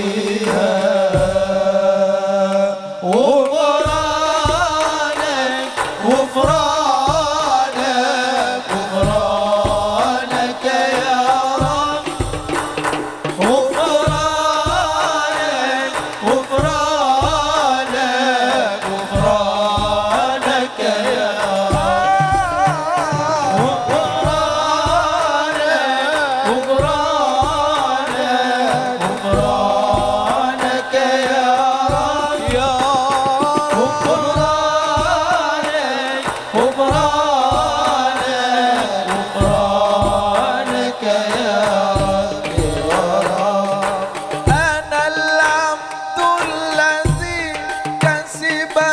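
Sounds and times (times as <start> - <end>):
drums beating: 0.0 - 48.9
men singing devotional song: 0.0 - 48.9.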